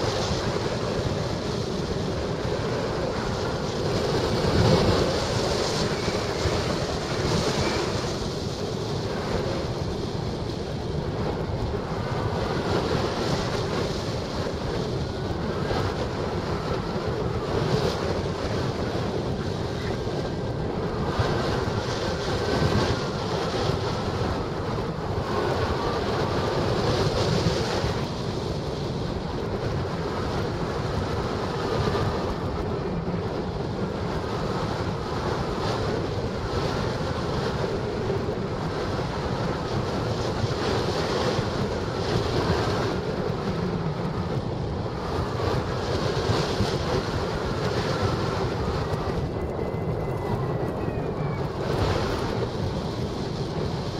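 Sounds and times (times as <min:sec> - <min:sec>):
wind rushing on microphone: 0:00.0 - 0:53.9.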